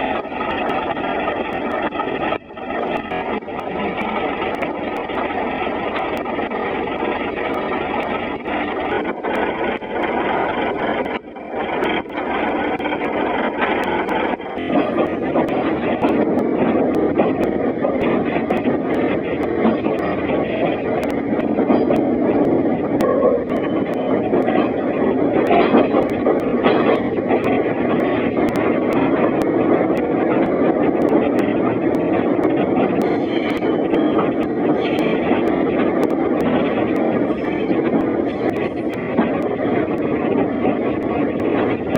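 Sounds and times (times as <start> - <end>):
muffled train rumble and rattle: 0.0 - 41.9.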